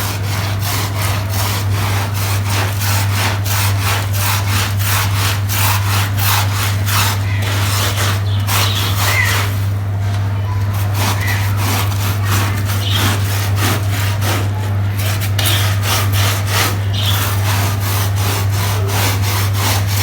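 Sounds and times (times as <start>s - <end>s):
stiff brush scrubbing wet carpet: 0.0s - 9.8s, 10.7s - 20.0s
steady low hum: 0.0s - 20.0s.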